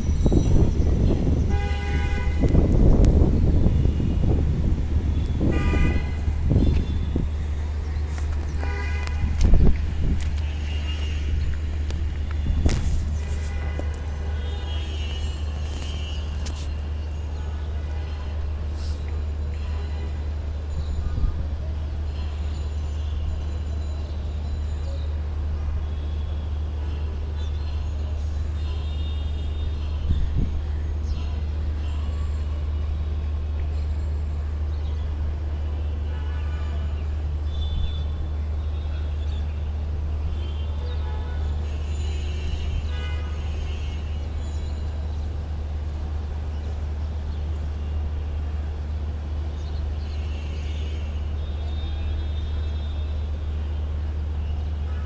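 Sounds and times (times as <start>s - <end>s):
low rumble of vehicles: 0.0s - 55.0s.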